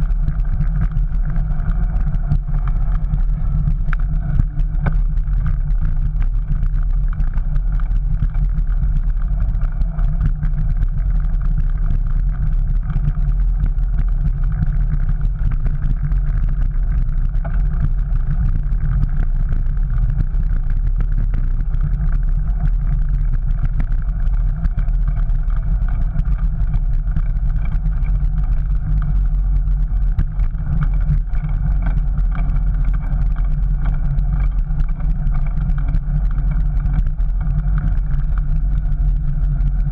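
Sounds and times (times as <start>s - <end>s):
bicycle tyres on brick paving: 0.0s - 39.9s
wind rumble: 0.0s - 39.9s.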